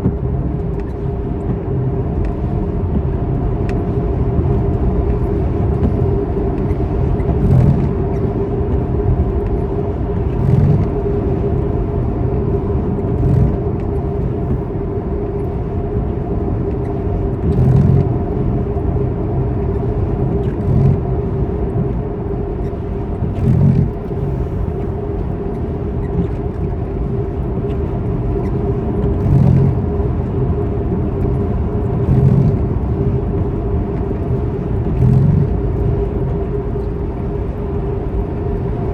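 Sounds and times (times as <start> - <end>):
motor vehicle engine running: 0.0 - 38.9.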